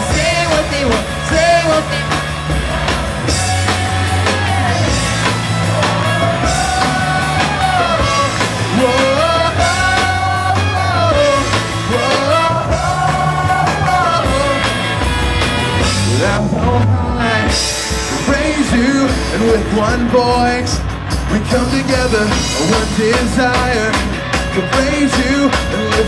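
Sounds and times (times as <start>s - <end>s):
bass and drums: 0.0s - 26.0s
rock band playing: 0.0s - 26.0s.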